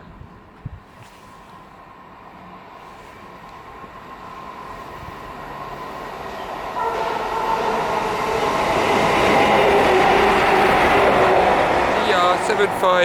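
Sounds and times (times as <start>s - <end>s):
train approaching: 0.0s - 13.0s
high-pitched train whine: 1.7s - 13.0s.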